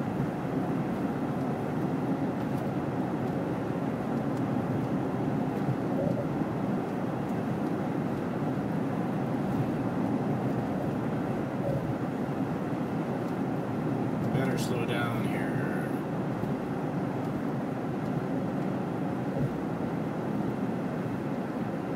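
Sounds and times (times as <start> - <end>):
car tyre noise from inside: 0.0 - 21.9.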